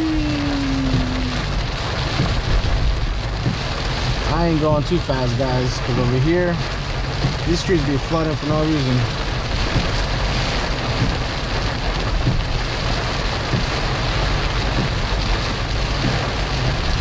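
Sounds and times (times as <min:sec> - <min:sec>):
car rumbling on wet road: 0:00.0 - 0:17.0
rain on a moving car: 0:00.0 - 0:17.0.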